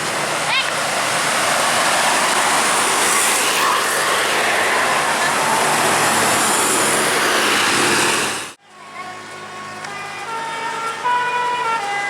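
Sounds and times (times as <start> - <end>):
bus rushing by: 0.0 - 12.0.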